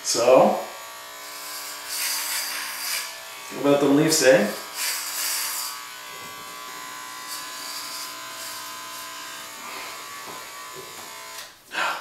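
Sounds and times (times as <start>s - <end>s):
electric hair clippers buzzing: 0.0s - 11.6s.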